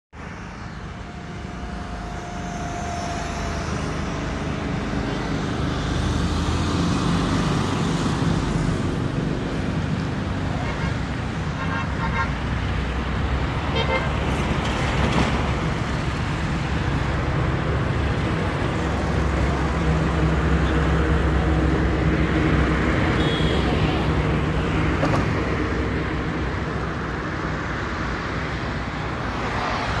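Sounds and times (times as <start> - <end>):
road noise: 0.1 - 30.0
vehicle engine humming: 0.2 - 30.0.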